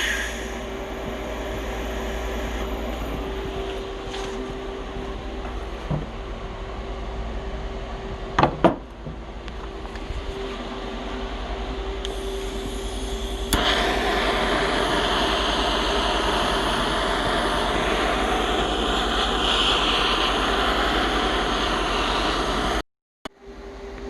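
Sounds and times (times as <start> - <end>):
power tool hissing whine: 0.0 - 7.3, 7.9 - 22.8.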